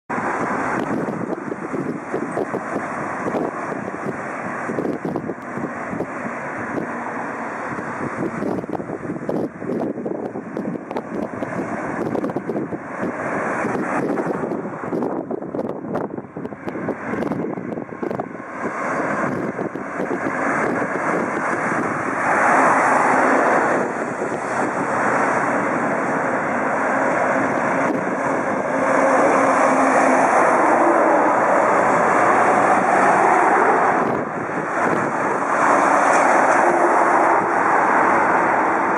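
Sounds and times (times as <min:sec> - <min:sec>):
jet engines roaring: 0:00.1 - 0:38.9
wind buffeting microphone: 0:00.1 - 0:38.9.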